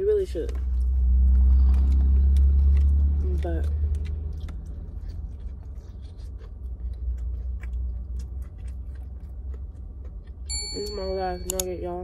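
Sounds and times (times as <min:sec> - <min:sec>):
low steady rumble: 0:00.0 - 0:12.0
person chewing food: 0:00.4 - 0:10.6
mouth clicks and smacks: 0:00.5 - 0:10.5.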